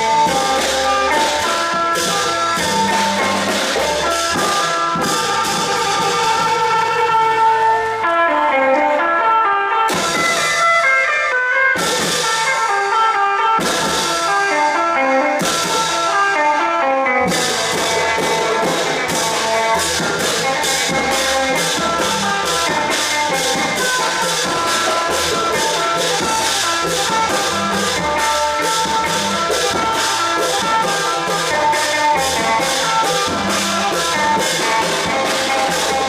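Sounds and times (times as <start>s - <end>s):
long-drum ensemble playing: 0.0s - 36.0s.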